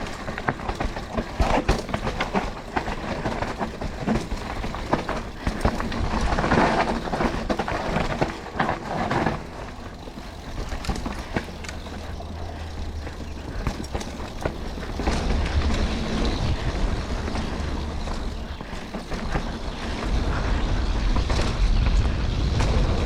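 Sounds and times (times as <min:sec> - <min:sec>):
mountain bike rattling on dirt trail: 0:00.0 - 0:23.0.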